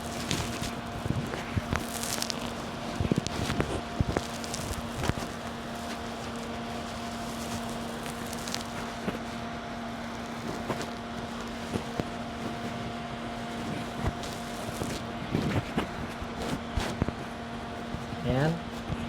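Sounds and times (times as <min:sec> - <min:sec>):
rubs and clicks against microphone: 0:00.0 - 0:09.4, 0:10.2 - 0:19.0
fan hum: 0:00.0 - 0:19.0.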